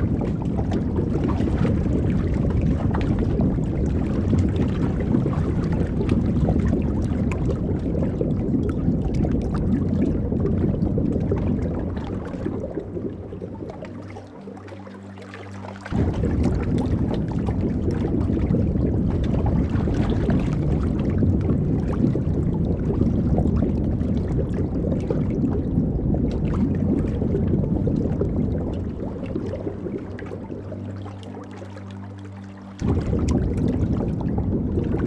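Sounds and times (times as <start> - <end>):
running water gurgling and splashing: 0.0 - 35.0.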